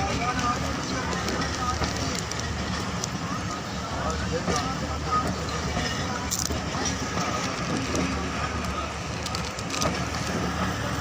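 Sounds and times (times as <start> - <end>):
train rumble and rattle: 0.0 - 11.0.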